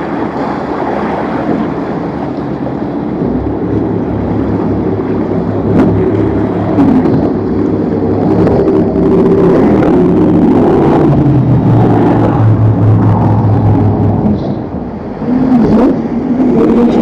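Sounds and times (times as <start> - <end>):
boat engines running: 0.0 - 17.0.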